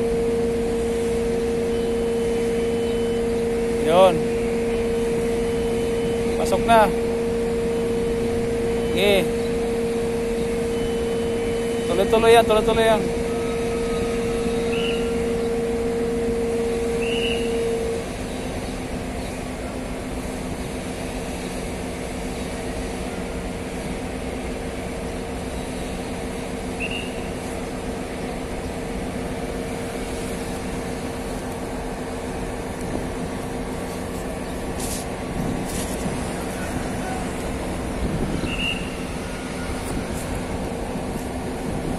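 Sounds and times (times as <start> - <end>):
diesel engine droning: 0.0 - 41.9.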